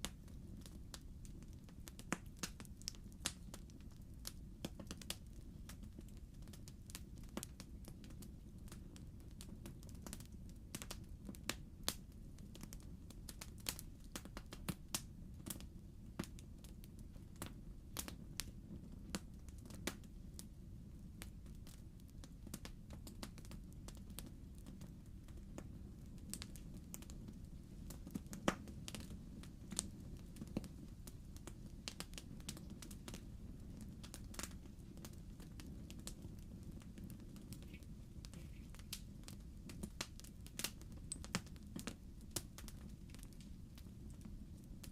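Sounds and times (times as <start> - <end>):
logs crackling and popping: 0.0 - 20.5, 21.2 - 44.9
fire flames rumbling: 0.0 - 44.9.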